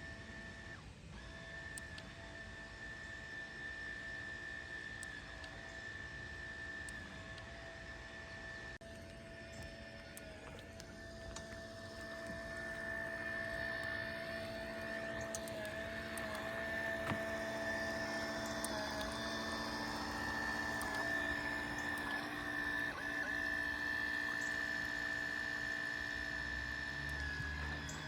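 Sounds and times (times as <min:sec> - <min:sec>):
small electric motor whining: 0:00.0 - 0:28.0.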